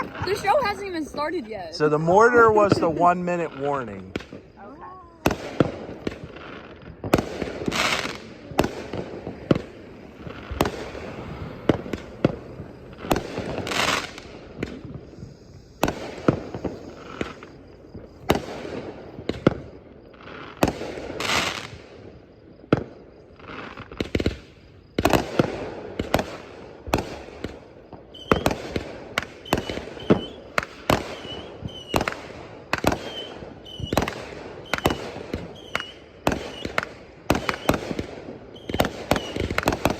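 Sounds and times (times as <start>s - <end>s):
fireworks bangs and pops: 0.0s - 39.9s
fireworks hissing rush: 0.0s - 39.9s
high chirps of fireworks: 0.0s - 39.9s.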